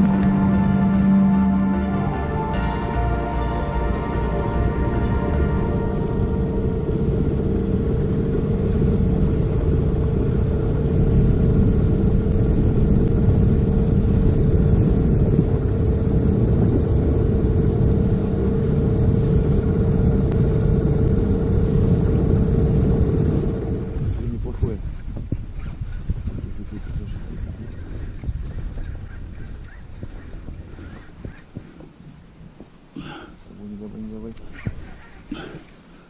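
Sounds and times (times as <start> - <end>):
outboard motor running: 0.0 - 32.0, 33.0 - 36.0.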